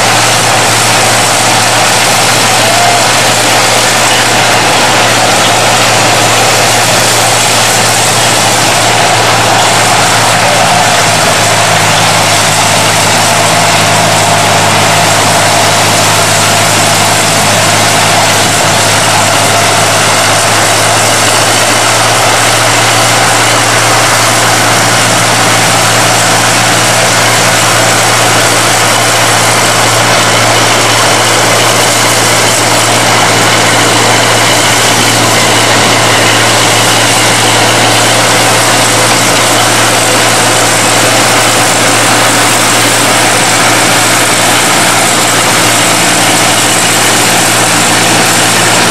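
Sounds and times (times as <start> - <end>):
diesel locomotive engine drone: 0.0 - 48.9
loud hiss: 0.0 - 48.9.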